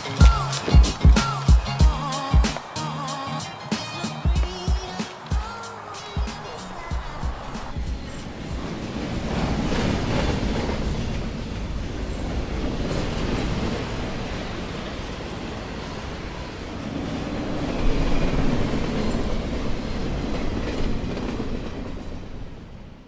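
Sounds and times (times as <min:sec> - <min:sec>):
train passing: 0:00.0 - 0:23.0.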